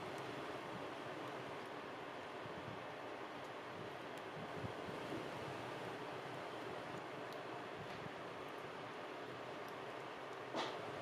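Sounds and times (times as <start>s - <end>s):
fire crackle: 0.0s - 11.0s
wood fire flames rushing: 0.0s - 11.0s.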